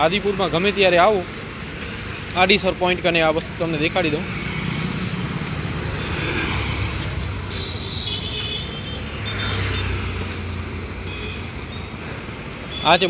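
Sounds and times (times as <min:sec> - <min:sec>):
motor vehicles passing on road: 0:00.0 - 0:13.0.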